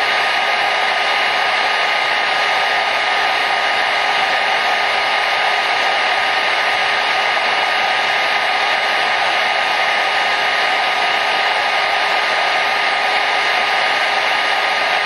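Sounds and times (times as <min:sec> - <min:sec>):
hair dryer blowing air: 0:00.0 - 0:15.0.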